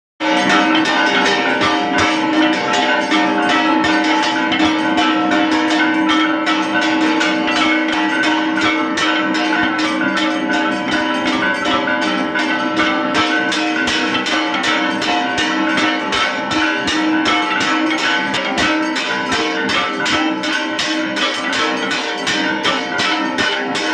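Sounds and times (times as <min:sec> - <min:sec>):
temple bells ringing rapidly: 0:00.2 - 0:23.9.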